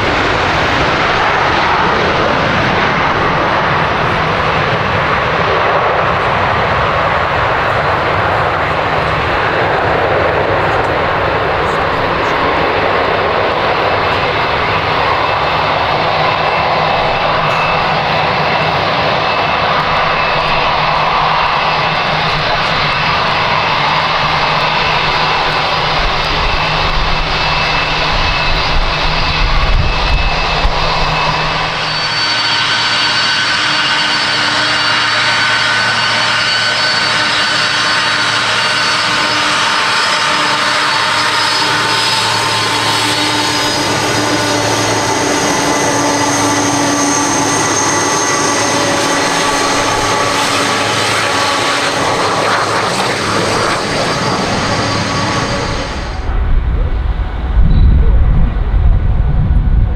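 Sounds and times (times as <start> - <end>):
deep engine rumble: 0.0 - 32.0, 41.8 - 59.9
whining engine tones: 0.0 - 59.8
jet engines rushing: 0.0 - 59.9.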